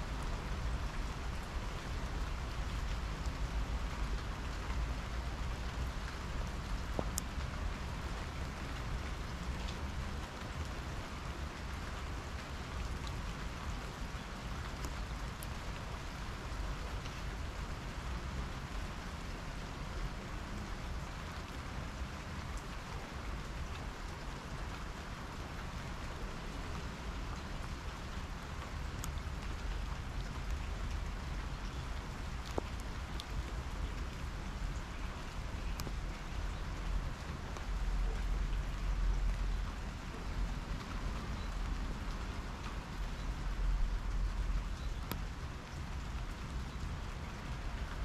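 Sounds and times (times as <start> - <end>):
steady rain on table and plants: 0.0 - 48.0.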